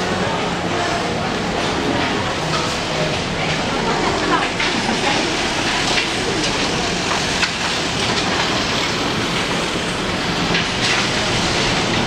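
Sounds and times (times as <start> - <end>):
busy street traffic: 0.0 - 12.0.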